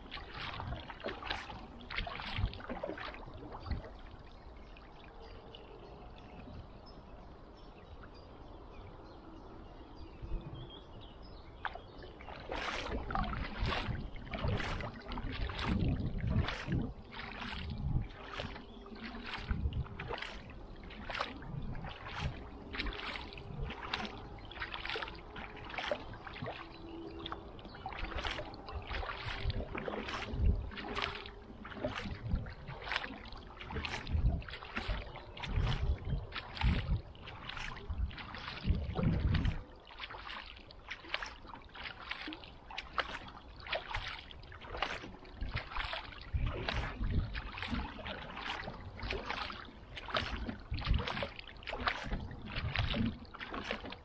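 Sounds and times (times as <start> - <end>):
water dripping: 0.0 - 6.4, 11.6 - 54.0
paddle splashing in water: 0.0 - 6.5, 11.0 - 54.0.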